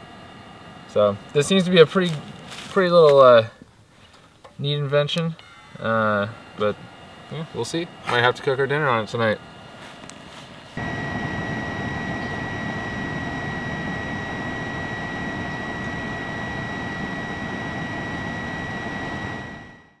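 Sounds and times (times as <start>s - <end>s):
stove fan whining: 0.0s - 20.0s.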